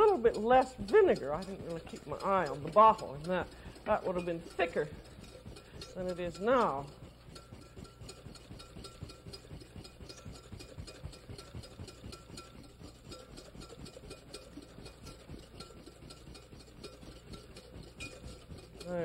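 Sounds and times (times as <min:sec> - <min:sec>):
wire whisk beating in bowl: 0:00.0 - 0:19.0.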